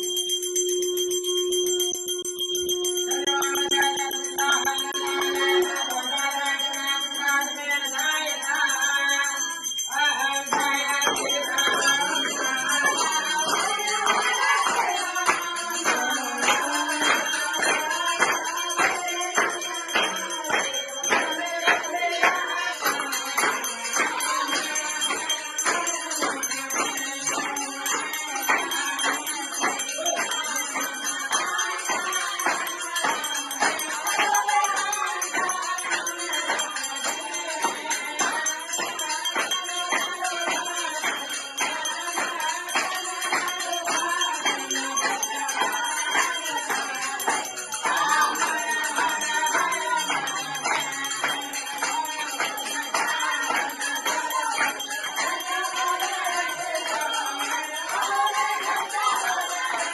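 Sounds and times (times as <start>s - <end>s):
group singing devotional music: 0.0s - 59.9s
jingling bells: 0.0s - 59.9s
steady percussion beat: 0.0s - 59.9s.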